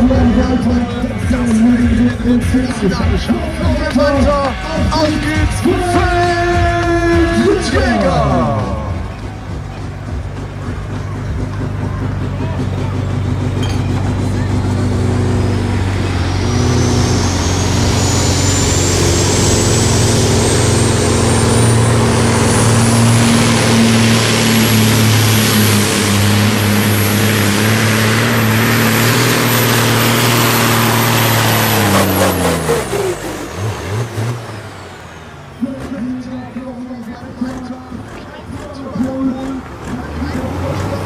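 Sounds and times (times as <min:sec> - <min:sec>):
pulling tractor engine whining: 0:00.0 - 0:41.0.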